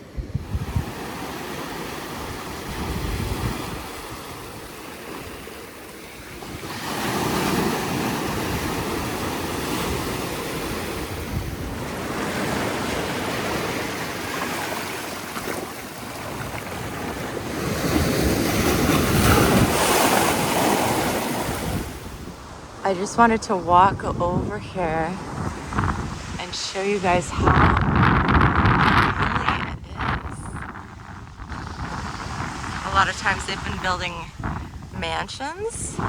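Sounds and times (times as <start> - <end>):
ocean surf breaking: 0.0 - 36.0
wind buffeting microphone: 0.0 - 36.0.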